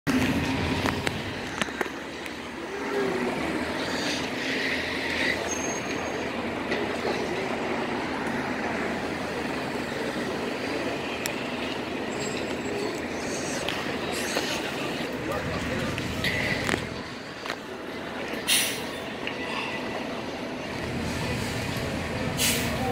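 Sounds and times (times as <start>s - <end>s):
buses and cars driving past: 0.1s - 22.9s.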